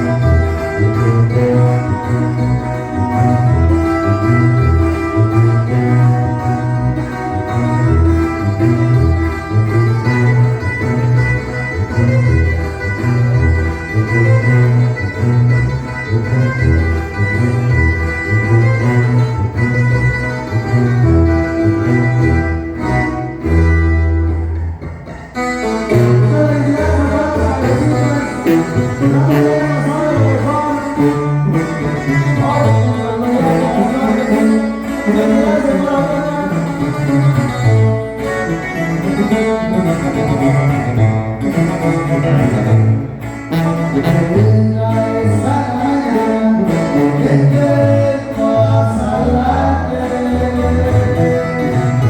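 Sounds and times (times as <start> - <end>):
band playing melody: 0.0 - 52.0
tuba bass line: 0.0 - 52.0.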